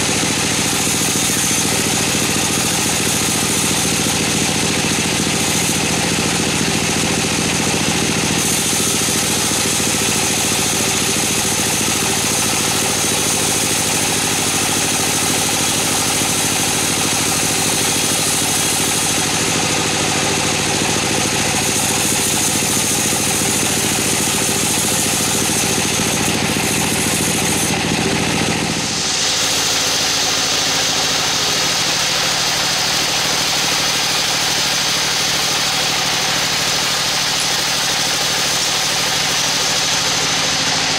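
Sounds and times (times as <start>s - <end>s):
band saw blade sawing log: 0.0s - 40.9s.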